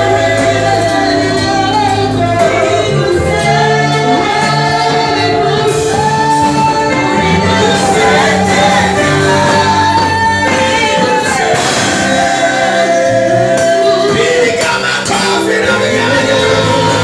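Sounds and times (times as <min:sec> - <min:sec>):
drum kit: 0:00.0 - 0:17.0
singers holding long sliding notes: 0:00.0 - 0:17.0.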